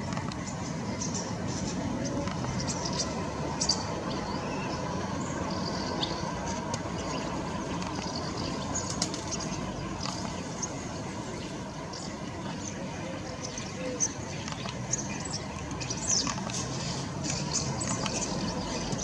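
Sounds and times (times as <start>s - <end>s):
distant road traffic rumble: 0.0s - 19.0s.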